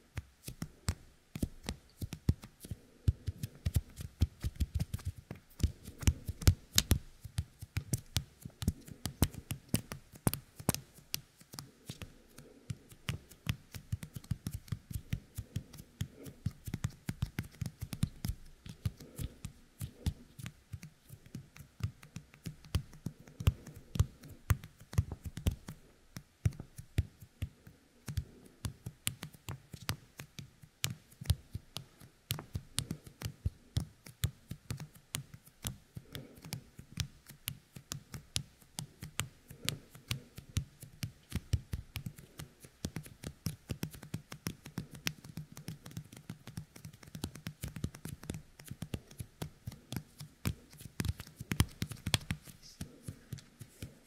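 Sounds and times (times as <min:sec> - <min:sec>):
sticky fingertips clicking: 0:00.0 - 0:54.0.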